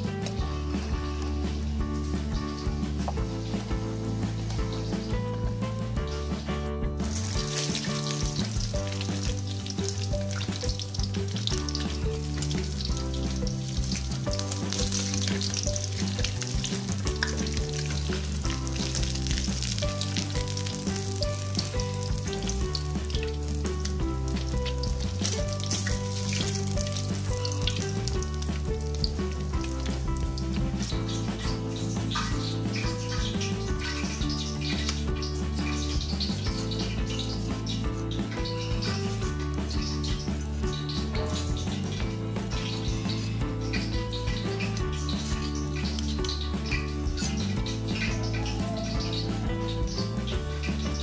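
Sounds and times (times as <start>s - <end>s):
background music: 0.0s - 51.0s
fish sizzling in hot oil: 6.0s - 51.0s.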